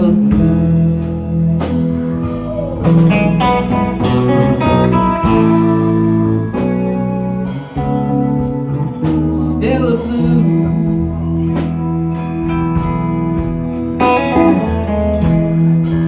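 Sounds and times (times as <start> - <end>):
person singing: 0.0 - 14.9
guitar melodic fill: 0.0 - 16.0
live band playing slow ballad: 0.0 - 16.0.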